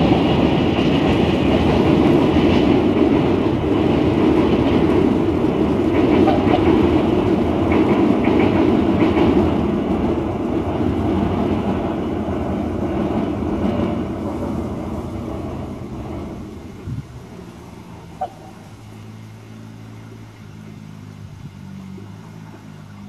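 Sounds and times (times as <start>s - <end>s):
train wheels on rail: 0.0s - 23.0s.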